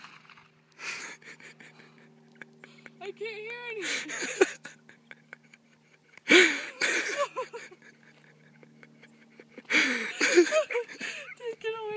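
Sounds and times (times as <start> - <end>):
woman laughing: 0.8 - 11.9.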